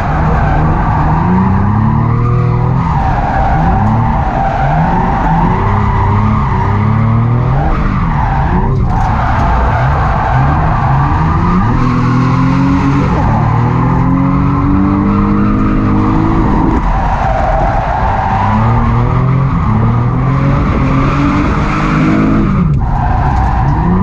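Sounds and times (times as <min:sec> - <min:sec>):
car engine revving hard: 0:00.0 - 0:24.0
tyres squealing and skidding: 0:00.0 - 0:24.0.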